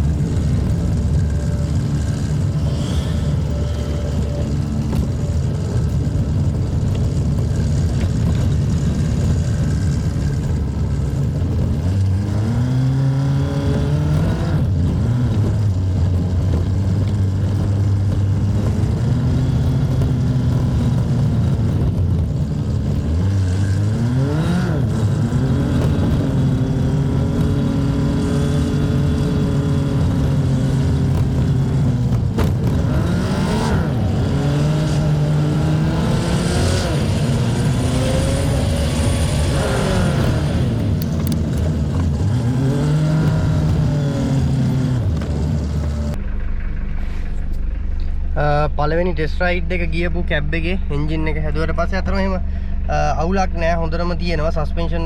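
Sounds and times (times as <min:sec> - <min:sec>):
diesel engine accelerating: 0:00.0 - 0:55.0.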